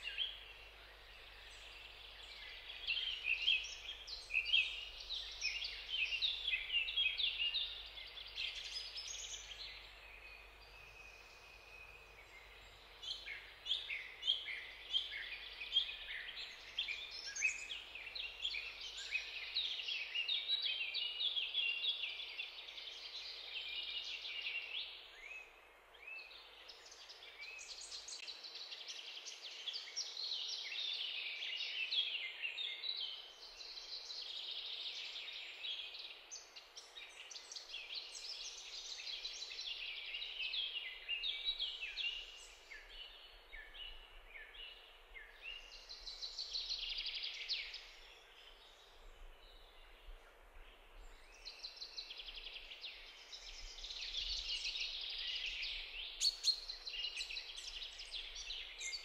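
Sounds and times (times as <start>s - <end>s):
birds chirping and twittering: 0.0s - 59.0s.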